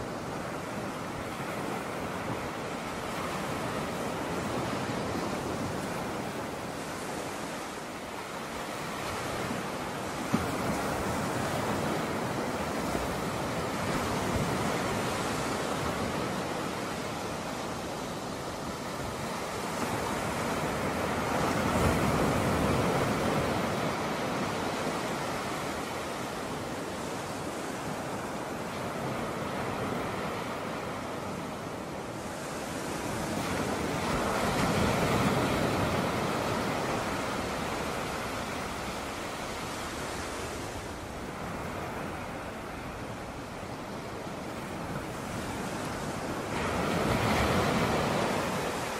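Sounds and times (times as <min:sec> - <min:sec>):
waves washing onto shore: 0:00.0 - 0:48.9.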